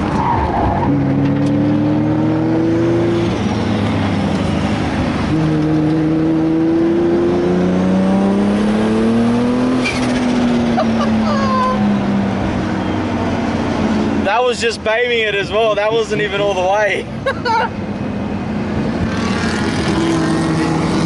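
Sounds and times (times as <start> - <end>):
car engine accelerating hard: 0.0 - 14.5, 18.5 - 21.0.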